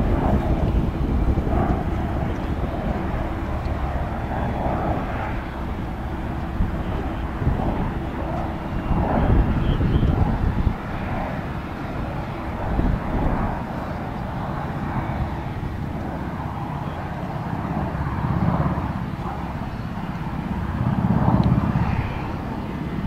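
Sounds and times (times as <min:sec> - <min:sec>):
tiltrotor aircraft low rumble: 0:00.0 - 0:23.0.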